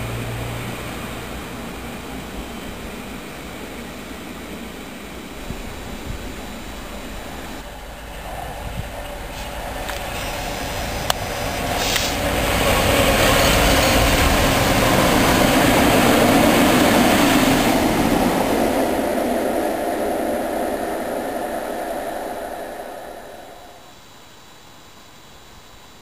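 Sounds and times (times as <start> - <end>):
diesel locomotives passing: 0.0 - 24.0.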